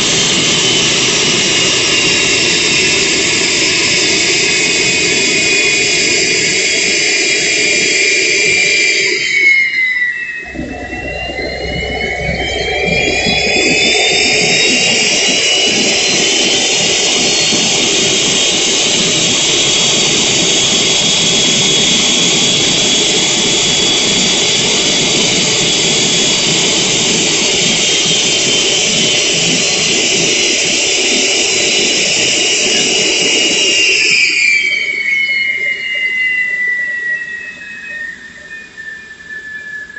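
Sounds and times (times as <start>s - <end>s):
high turbine whine: 0.0s - 39.9s
jet engine combustion rush: 0.0s - 39.9s.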